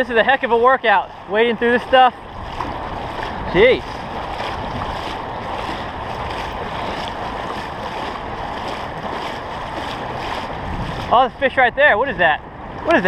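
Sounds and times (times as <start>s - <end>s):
water swishing around wading legs: 0.0s - 13.0s.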